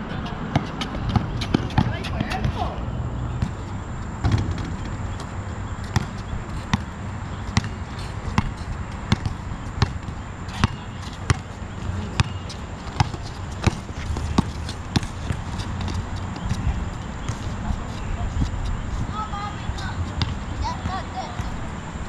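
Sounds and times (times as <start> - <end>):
basketball bouncing: 0.4 - 2.7, 3.4 - 17.5, 20.1 - 21.6.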